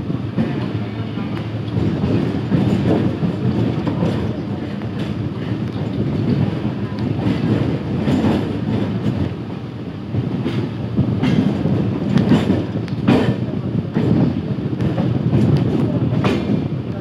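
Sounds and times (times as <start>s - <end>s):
wheels clacking over rail joints: 0.0s - 9.4s, 10.1s - 17.0s
train wheels rumbling on rails: 0.0s - 17.0s.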